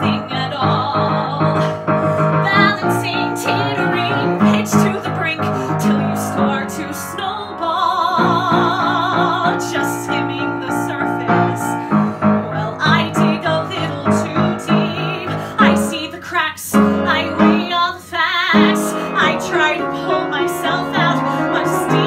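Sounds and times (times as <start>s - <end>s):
piano accompaniment: 0.0s - 22.0s
woman singing a ballad: 0.0s - 22.0s.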